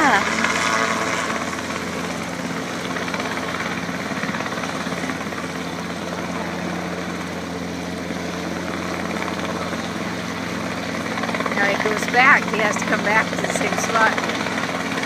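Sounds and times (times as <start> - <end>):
helicopter rotor beating: 0.0 - 15.0
piston engine drone: 0.0 - 15.0.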